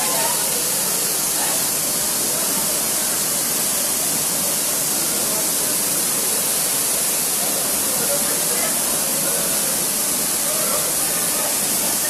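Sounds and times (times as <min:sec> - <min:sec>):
waterfall rushing onto rock: 0:00.0 - 0:12.0.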